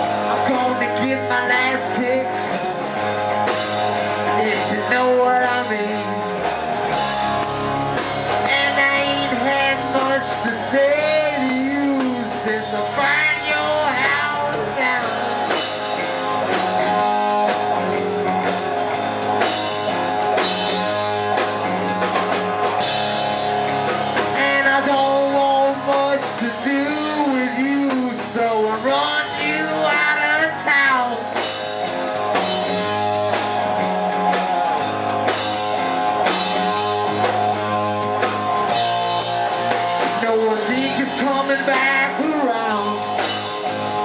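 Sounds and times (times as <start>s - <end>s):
bass line: 0.0s - 44.0s
drum kit steady beat: 0.0s - 44.0s
guitar chords: 0.0s - 44.0s
rock band playing: 0.0s - 44.0s.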